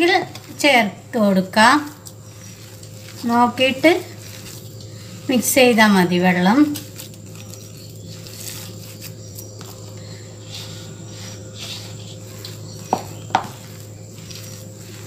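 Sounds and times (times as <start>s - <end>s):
steady low hum: 0.0s - 15.0s
hand squishing paste in bowl: 1.5s - 15.0s.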